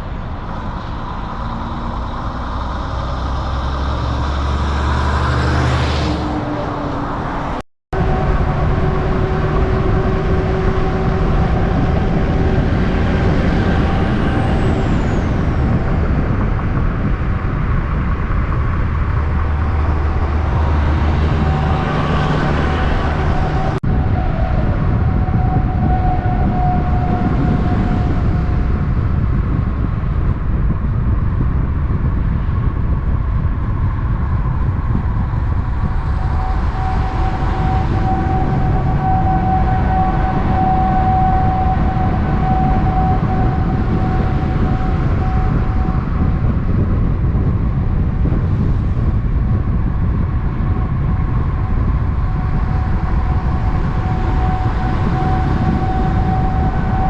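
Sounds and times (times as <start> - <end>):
vehicle low rumble: 0.0 - 57.0
steady whine: 6.6 - 31.6, 33.6 - 57.0.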